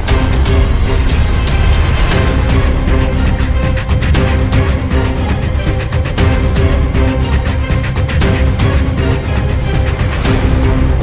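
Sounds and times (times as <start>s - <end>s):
music with heavy bass and drums: 0.0s - 11.0s.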